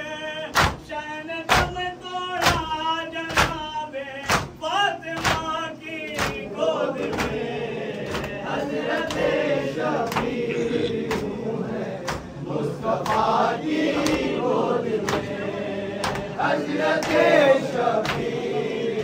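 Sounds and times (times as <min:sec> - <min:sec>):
male voices chanting: 0:00.0 - 0:19.0
person singing a mourning chant: 0:00.0 - 0:19.0
people beating their chests: 0:00.4 - 0:19.0.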